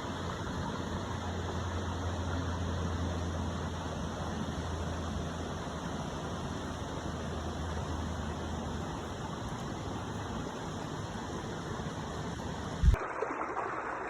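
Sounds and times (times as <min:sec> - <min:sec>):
flowing water rushing: 0:00.0 - 0:14.0
trickling water: 0:00.0 - 0:14.0.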